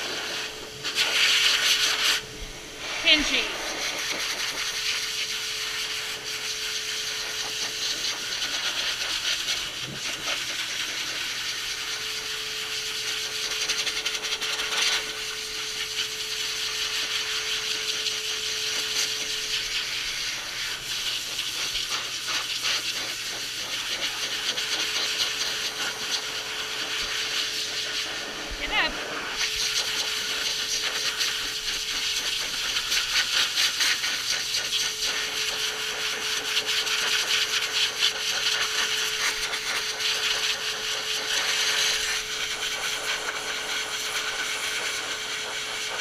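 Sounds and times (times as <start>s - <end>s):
dryer blowing air: 0.0s - 46.0s.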